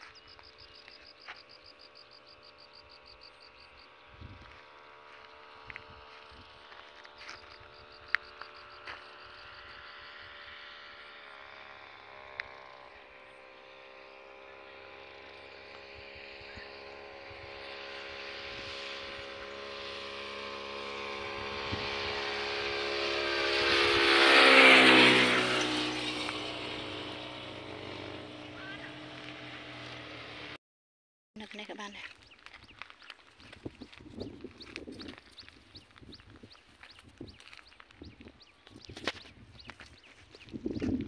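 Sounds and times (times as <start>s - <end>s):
small engine vehicle passing: 0.0s - 30.6s, 32.0s - 41.0s.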